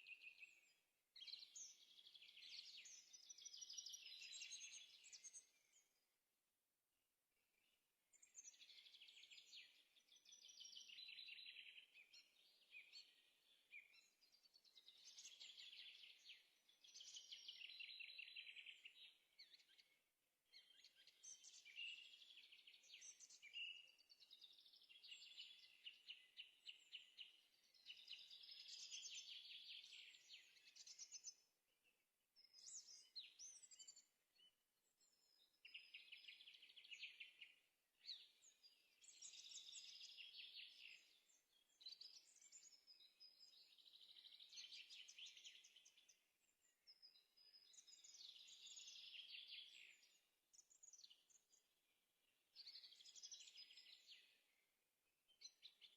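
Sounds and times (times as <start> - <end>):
songbird trills and chirps: 0.0 - 6.0, 7.5 - 54.6, 55.3 - 55.9.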